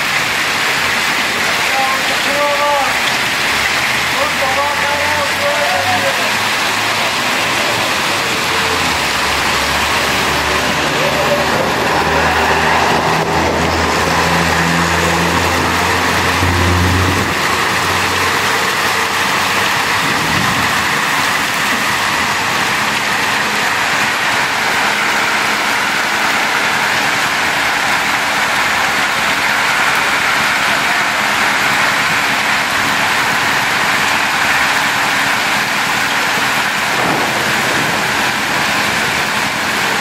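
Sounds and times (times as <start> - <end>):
heavy rain hissing: 0.0 - 40.0
vehicle engine humming: 0.0 - 40.0.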